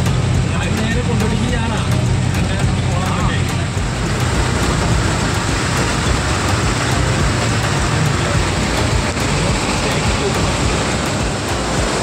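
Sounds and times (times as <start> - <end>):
car engine running: 0.0 - 12.0
rain: 0.0 - 12.0
river rapids rushing: 0.0 - 12.0.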